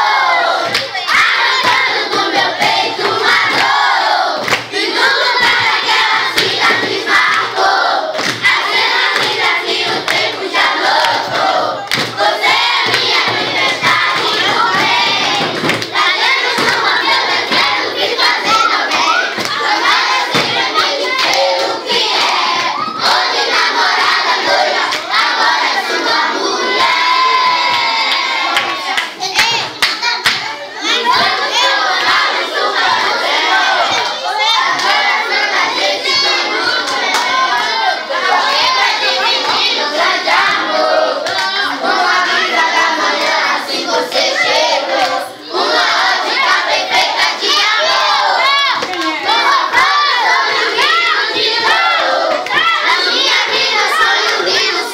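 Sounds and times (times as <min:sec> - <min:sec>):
children shouting and talking: 0:00.0 - 0:54.9.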